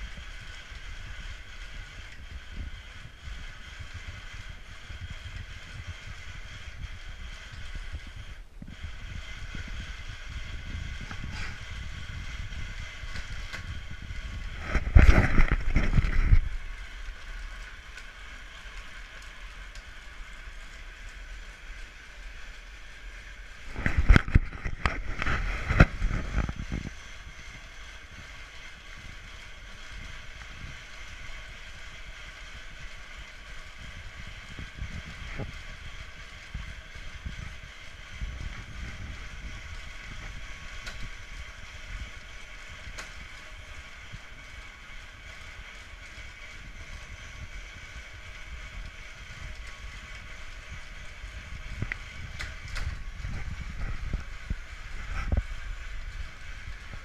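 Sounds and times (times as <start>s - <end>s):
grain mill whirring: 0.0s - 57.0s.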